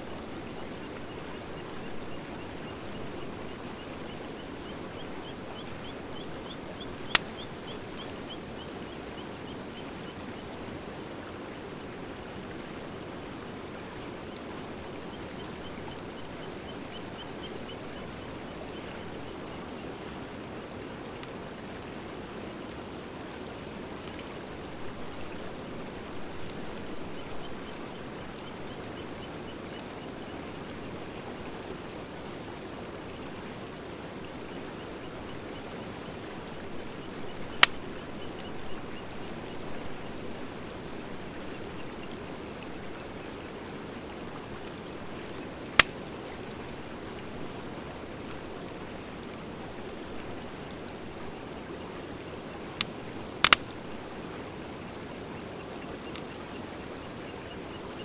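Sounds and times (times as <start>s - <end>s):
wood fire hissing and crackling: 0.0s - 8.6s, 10.4s - 58.0s.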